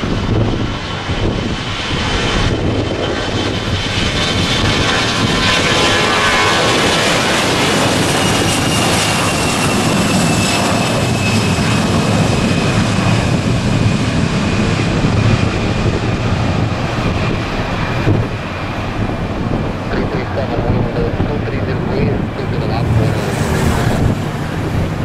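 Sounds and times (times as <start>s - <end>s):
jet engine roar with fan whine: 0.0s - 25.0s.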